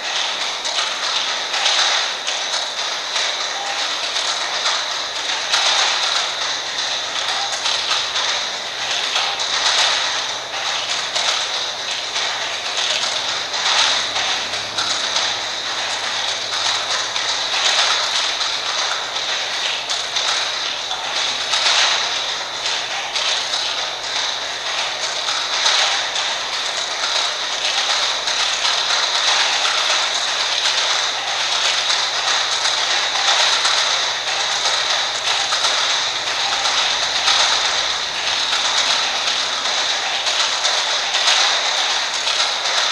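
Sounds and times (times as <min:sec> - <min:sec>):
clock mechanisms ticking: 0:00.0 - 0:42.9.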